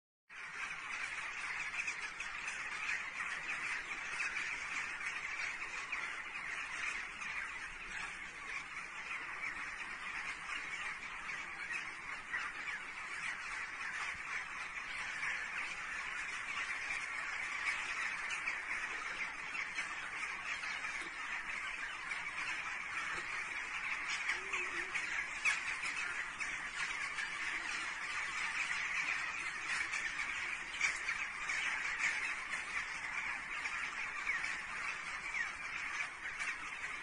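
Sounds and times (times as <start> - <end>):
flock of birds chattering: 0.3 - 37.0.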